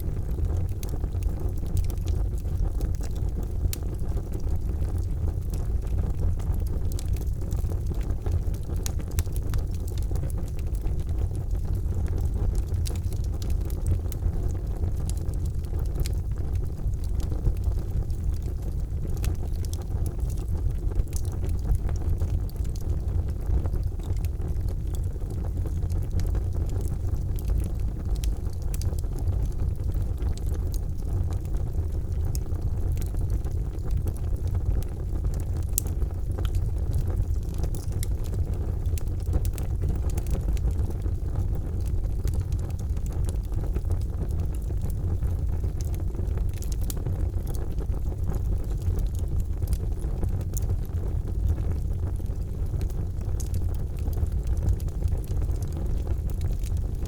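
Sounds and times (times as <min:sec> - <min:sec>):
charcoal fire rumbling: 0:00.0 - 0:57.0
fire crackling and popping: 0:00.0 - 0:57.0.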